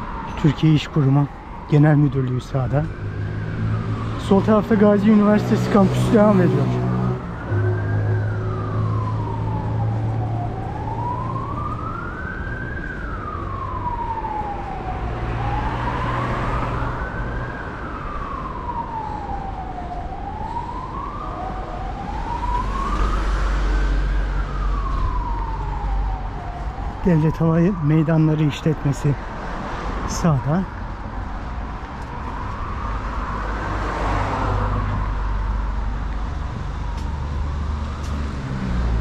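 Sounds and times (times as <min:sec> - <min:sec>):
siren wailing: 0:00.0 - 0:39.0
street traffic rumble: 0:00.0 - 0:39.0.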